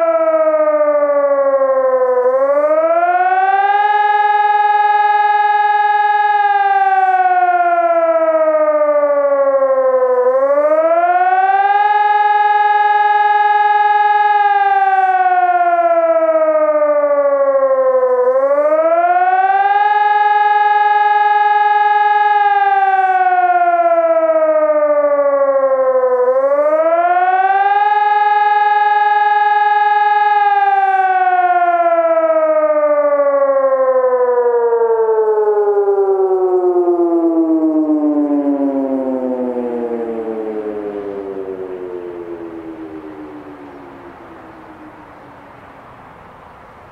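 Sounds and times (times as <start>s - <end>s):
electronic siren wailing: 0.0s - 46.9s.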